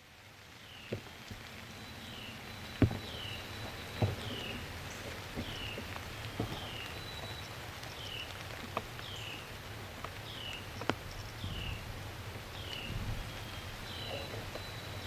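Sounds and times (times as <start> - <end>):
rural outdoor ambience: 0.0 - 15.0.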